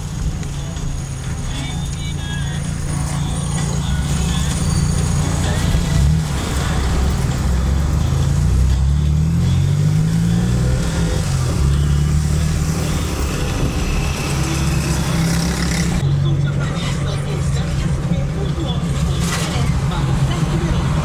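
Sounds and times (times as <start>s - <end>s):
car engine: 0.0s - 21.0s
road noise: 0.0s - 21.0s.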